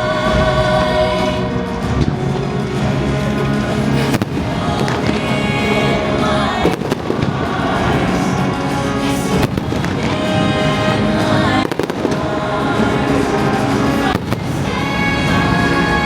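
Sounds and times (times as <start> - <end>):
music over loudspeakers: 0.0 - 16.0
fireworks bangs: 1.8 - 16.0.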